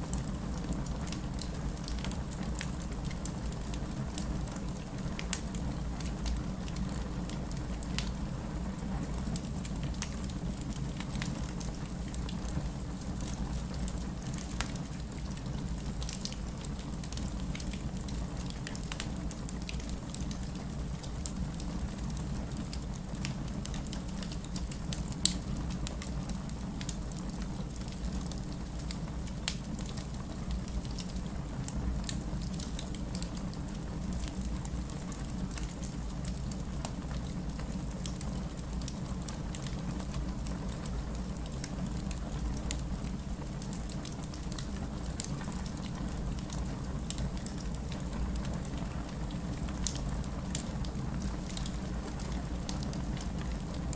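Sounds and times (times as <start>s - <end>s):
fire flames rumbling: 0.1s - 53.9s
wood crackling and popping: 0.1s - 53.9s.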